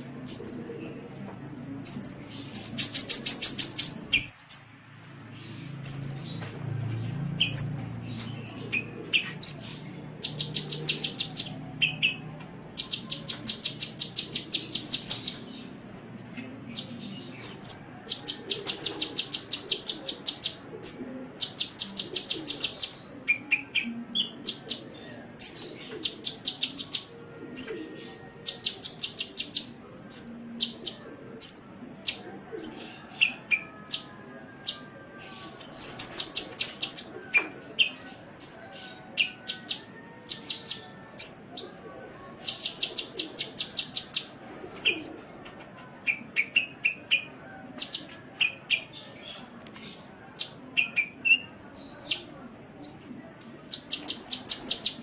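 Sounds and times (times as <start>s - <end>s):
songbird singing trills and chirps: 0.2s - 1.0s, 1.8s - 45.3s, 46.0s - 55.0s.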